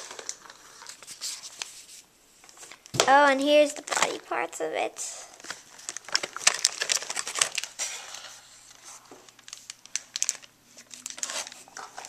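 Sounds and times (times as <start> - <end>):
plastic bags crinkling: 0.0 - 1.8, 2.4 - 4.5, 5.3 - 12.0.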